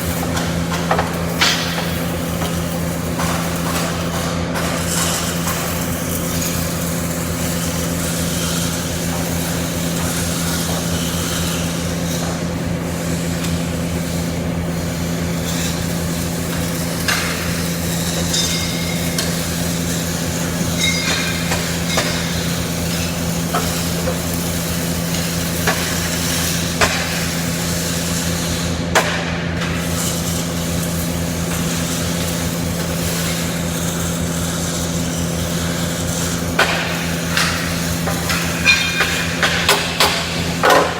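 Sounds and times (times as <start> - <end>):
welding arc crackling: 0.0 - 40.9.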